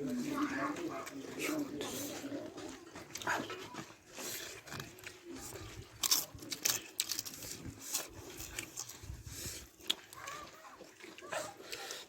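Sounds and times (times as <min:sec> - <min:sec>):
chewing with sharp crunches: 0:00.0 - 0:12.0.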